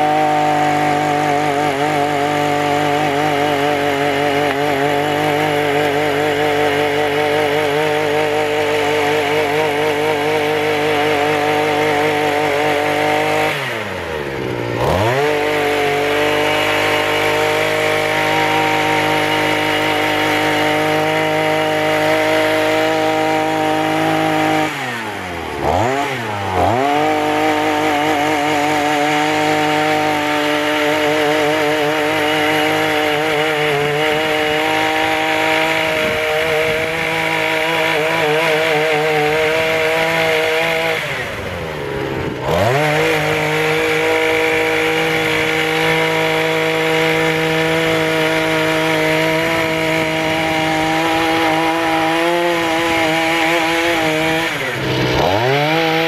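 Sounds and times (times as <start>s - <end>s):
brush cutter engine high revs: 0.0s - 56.0s
tines churning soil: 0.0s - 56.0s.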